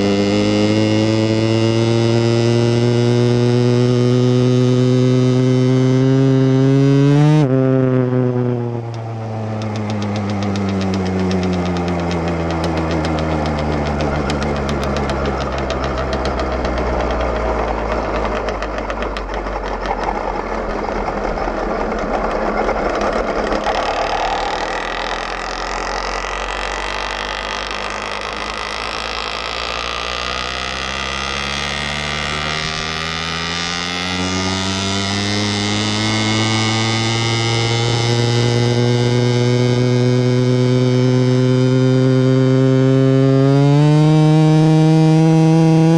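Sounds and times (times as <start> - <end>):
two-stroke bicycle engine running: 0.0 - 45.9.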